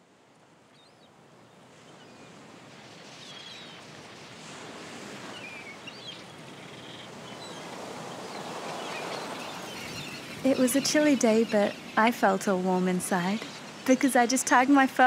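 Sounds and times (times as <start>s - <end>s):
waves washing: 1.2s - 15.0s.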